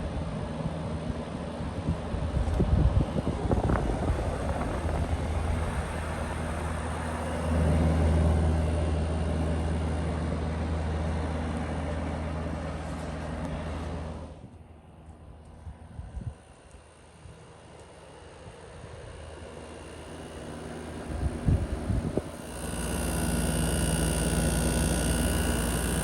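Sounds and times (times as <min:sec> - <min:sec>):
fan airflow rushing: 0:00.0 - 0:14.5, 0:15.4 - 0:26.0
low compressor hum: 0:00.0 - 0:26.0.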